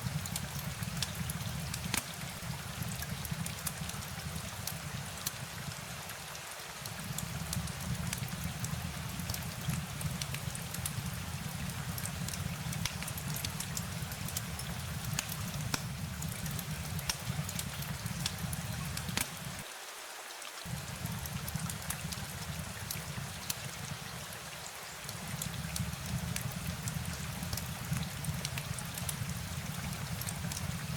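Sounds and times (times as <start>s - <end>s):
sharp drip ticks: 0.0s - 5.5s, 6.8s - 19.6s, 20.7s - 30.9s
rain falling: 0.0s - 30.9s.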